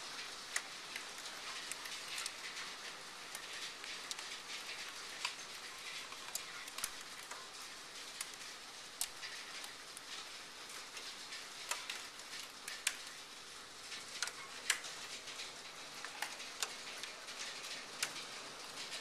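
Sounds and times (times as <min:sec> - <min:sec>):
hail pattering: 0:00.0 - 0:19.0
hailstones clicking: 0:00.0 - 0:19.0.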